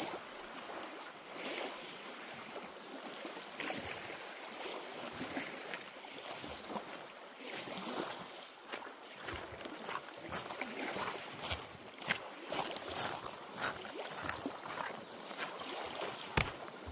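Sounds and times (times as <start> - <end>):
lake water splashing and lapping: 0.0 - 16.9.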